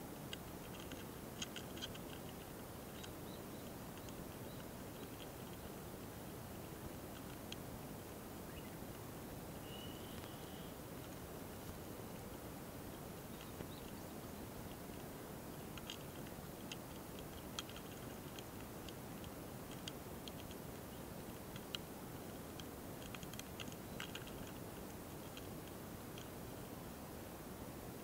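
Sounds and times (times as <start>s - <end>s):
steady hiss: 0.0s - 28.0s
beetle ticks and clicks: 0.2s - 26.7s.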